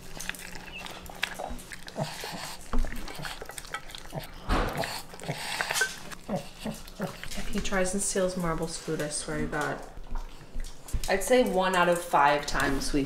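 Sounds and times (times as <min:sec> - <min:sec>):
dog chewing and licking: 0:00.0 - 0:13.0.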